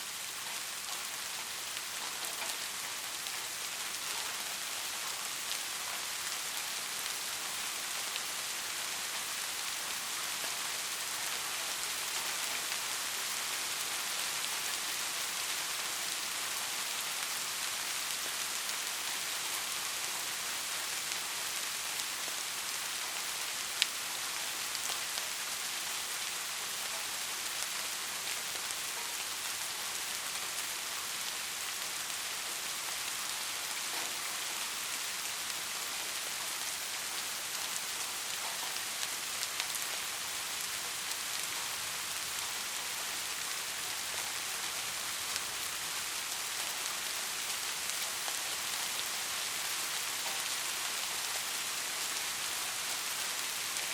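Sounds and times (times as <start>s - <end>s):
soft rain on a surface: 0.0s - 53.9s.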